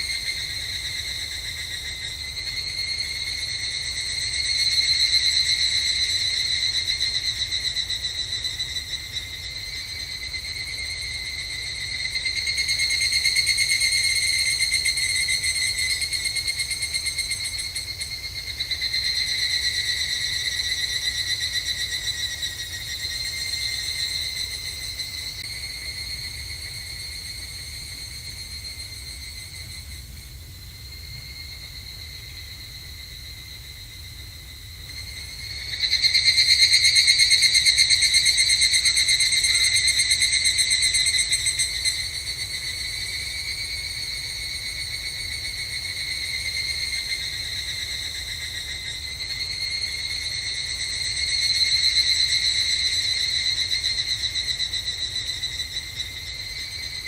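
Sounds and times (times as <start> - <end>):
cicadas trilling: 0.0 - 57.0.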